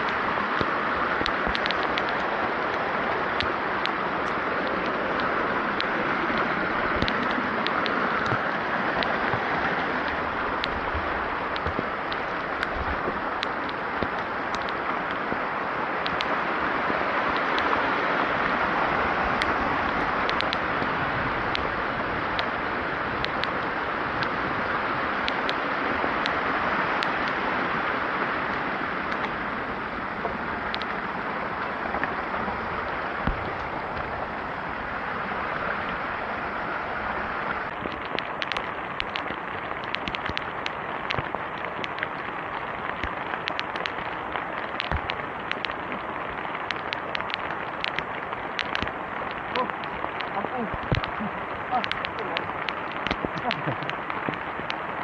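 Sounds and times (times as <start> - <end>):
heavy rain: 0.0 - 55.0
raindrops ticking close by: 0.0 - 55.0.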